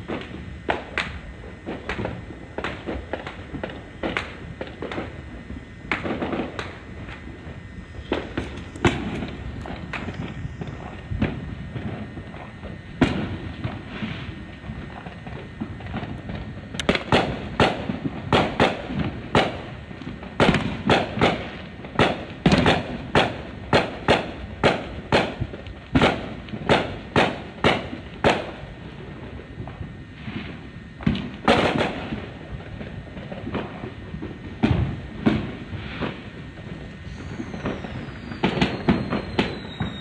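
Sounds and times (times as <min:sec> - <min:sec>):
fireworks banging: 0:00.0 - 0:40.0.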